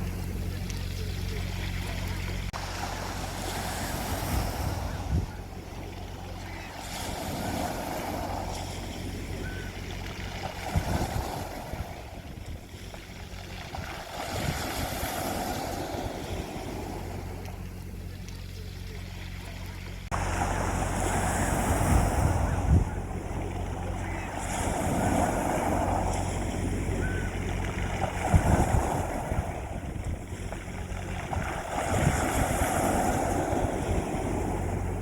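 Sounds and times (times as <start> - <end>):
sea waves washing onto beach: 0.0 - 35.0
wind rumble on microphone: 0.0 - 35.0.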